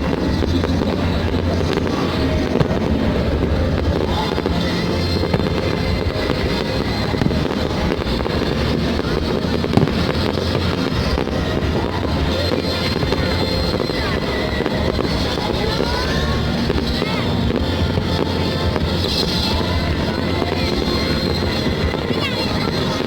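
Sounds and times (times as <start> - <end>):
fireworks show music: 0.0 - 23.0
low rumble of fireworks: 0.0 - 23.0
sharp firework bangs: 0.0 - 23.0.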